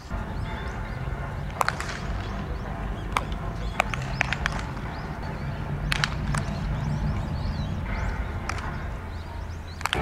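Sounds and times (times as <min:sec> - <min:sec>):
baseballs smacking into gloves: 0:00.2 - 0:10.0.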